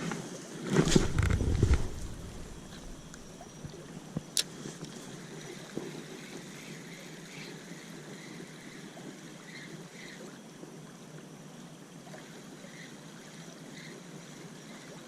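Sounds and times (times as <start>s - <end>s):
water lapping at shoreline: 0.0s - 15.0s.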